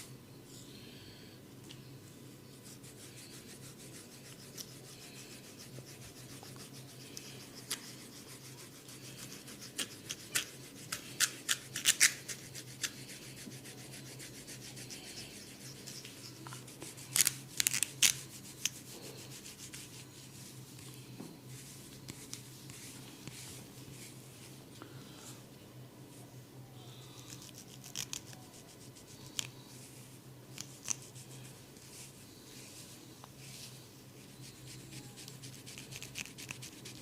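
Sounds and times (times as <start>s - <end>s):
rubbing and scratching hair: 2.4s - 24.7s, 27.4s - 37.0s.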